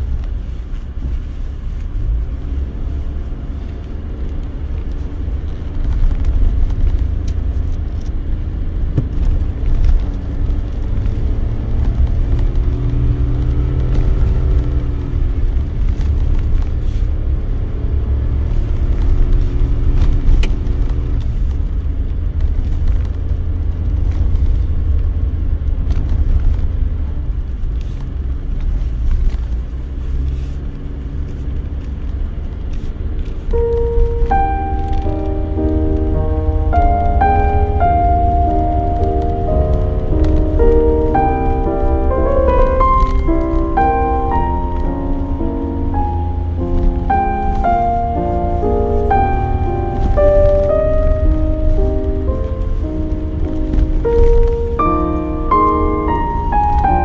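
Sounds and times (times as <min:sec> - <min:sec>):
car engine: 0:00.0 - 0:57.0.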